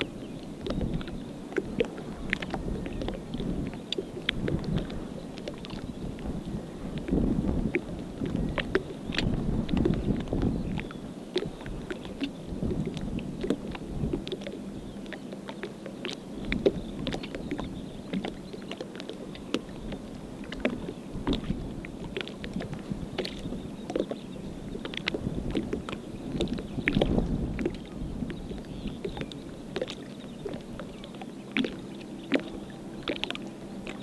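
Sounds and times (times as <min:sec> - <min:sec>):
small waves lapping on shore: 0:00.0 - 0:34.0
wind rumble on microphone: 0:00.0 - 0:34.0.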